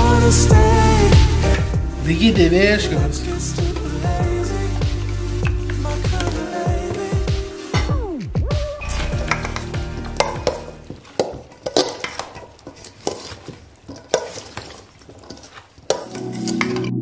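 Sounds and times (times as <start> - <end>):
wet squelchy salad mixing: 0.0 - 7.4, 9.0 - 17.0.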